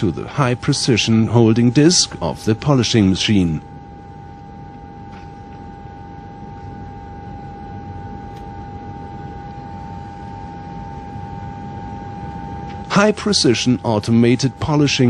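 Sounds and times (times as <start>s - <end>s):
machine hum with whine: 0.0s - 15.0s.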